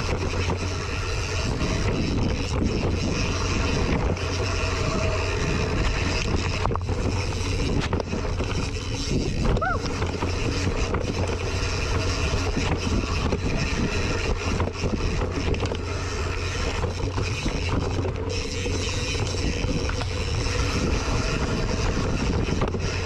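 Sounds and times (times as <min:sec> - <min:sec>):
bike rattling and knocking: 0:00.0 - 0:23.0
bike tyre roar: 0:00.0 - 0:23.0
wind buffeting microphone: 0:00.0 - 0:23.0.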